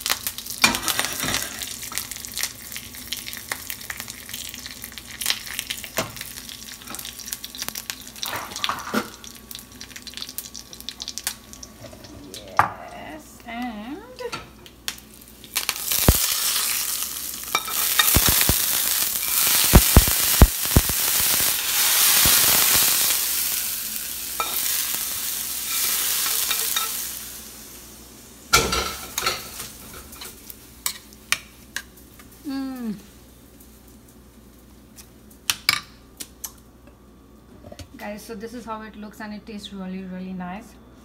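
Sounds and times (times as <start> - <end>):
spices sizzling in hot oil: 0.0 - 35.6.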